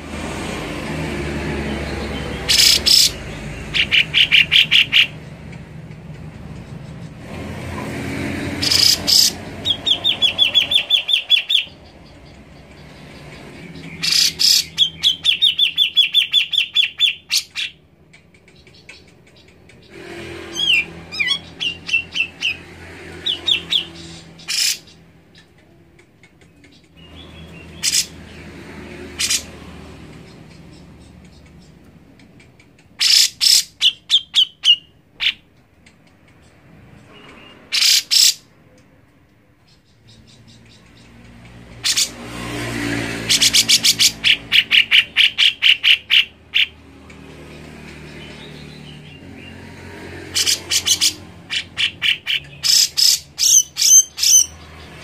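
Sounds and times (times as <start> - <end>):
bird chirping: 1.6 - 7.4, 8.4 - 42.3, 43.1 - 55.0.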